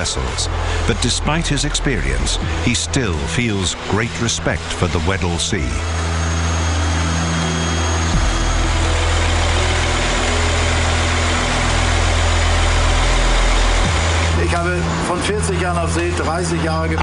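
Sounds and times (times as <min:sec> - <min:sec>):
engine-room machinery hum: 0:00.0 - 0:17.0.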